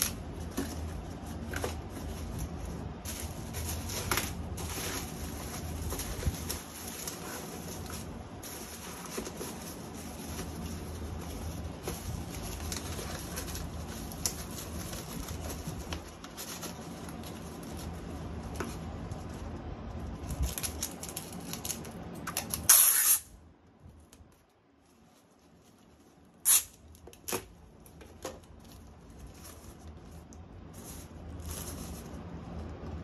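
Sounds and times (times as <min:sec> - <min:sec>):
cardboard and paper rustling: 0:00.0 - 0:22.7, 0:23.8 - 0:33.0.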